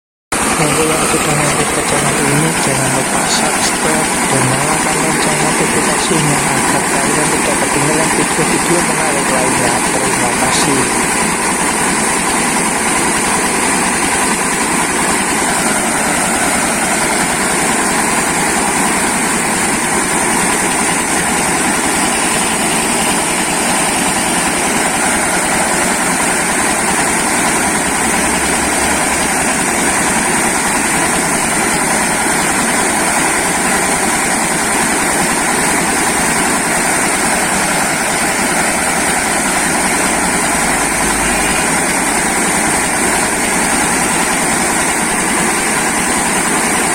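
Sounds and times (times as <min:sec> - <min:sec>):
corn milling machine running: 0:00.3 - 0:46.9.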